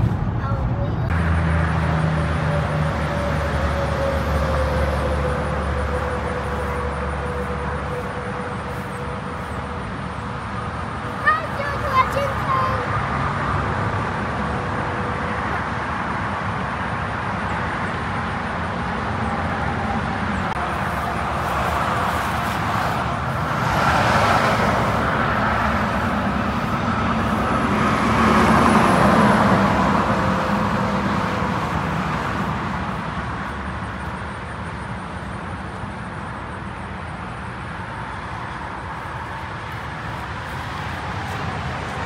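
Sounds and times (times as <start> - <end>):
road traffic noise: 0.0 - 42.0.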